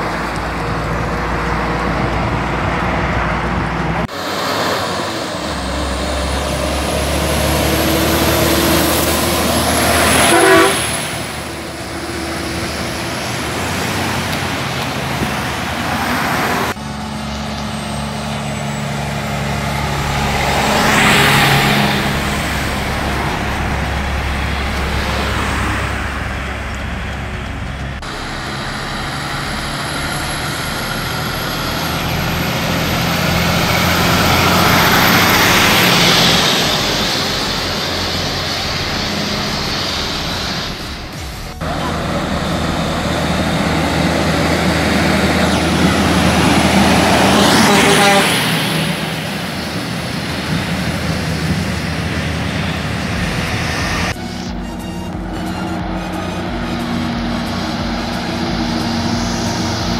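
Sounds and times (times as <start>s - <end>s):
trucks driving past: 0.0s - 59.9s.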